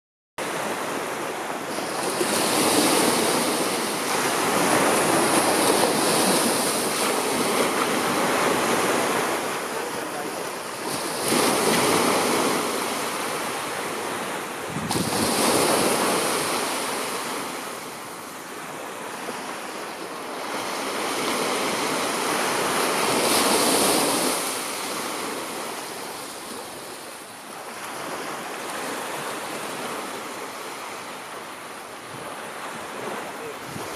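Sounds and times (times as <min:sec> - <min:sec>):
small waves breaking on shore: 0:00.4 - 0:33.9.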